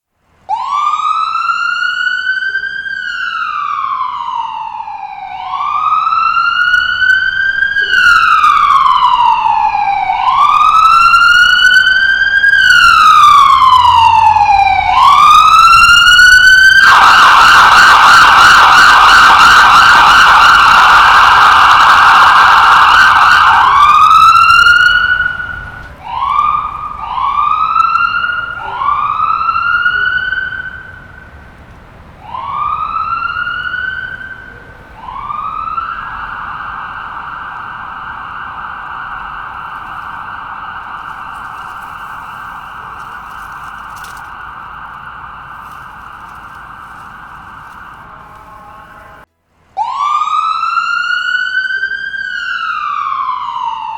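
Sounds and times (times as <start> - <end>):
ambulance siren wailing and yelping: 0.5 - 53.9.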